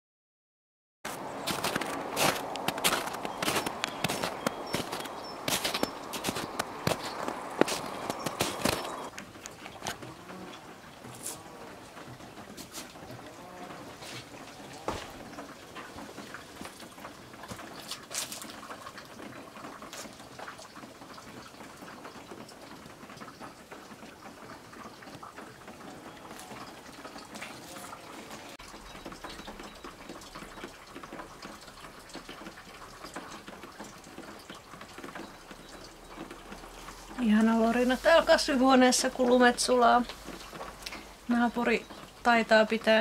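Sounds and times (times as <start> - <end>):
meltwater trickling and gurgling: 1.1 - 43.0
sharp water drips: 1.1 - 43.0.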